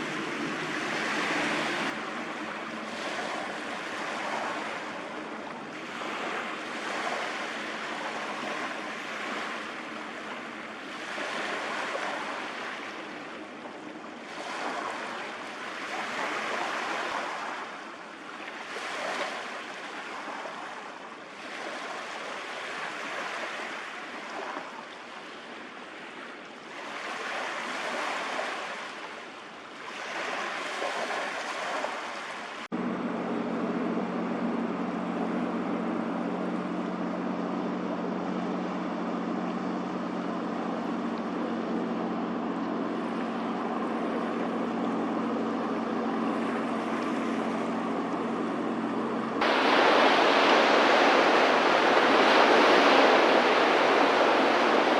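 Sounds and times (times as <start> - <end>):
low engine hum: 0.0 - 54.9
sea waves washing: 0.0 - 54.9.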